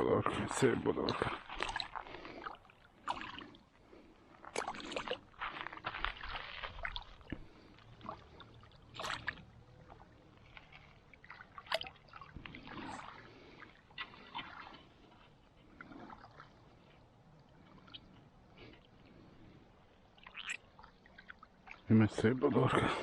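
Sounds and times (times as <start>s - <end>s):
water splashing: 0.0s - 23.0s.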